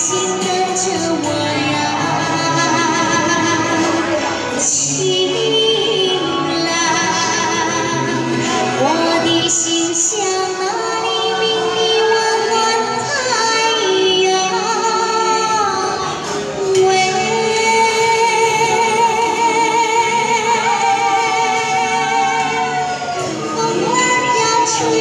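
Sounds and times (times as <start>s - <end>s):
musical accompaniment: 0.0s - 25.0s
woman singing through amplifier: 0.0s - 25.0s.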